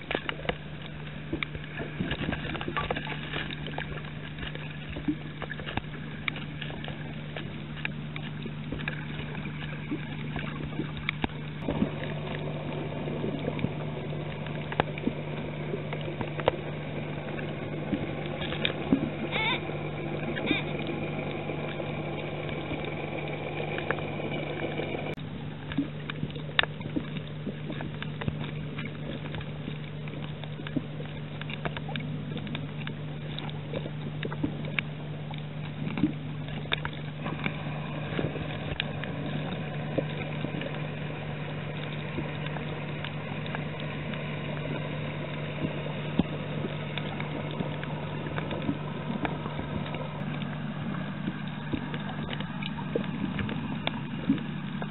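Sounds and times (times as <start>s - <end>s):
faint clicks and crackles: 0.0s - 54.9s
underwater low hum: 0.0s - 54.9s.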